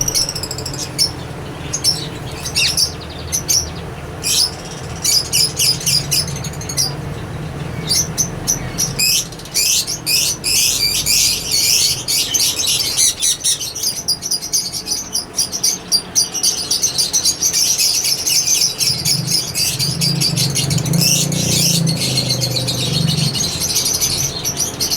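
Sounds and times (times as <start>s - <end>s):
parakeets chirping and chattering: 0.0s - 24.9s.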